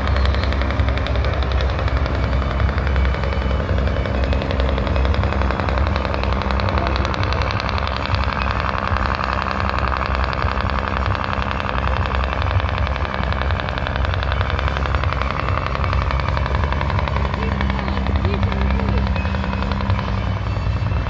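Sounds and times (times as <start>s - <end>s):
heavy truck engines pulsing: 0.0s - 21.0s.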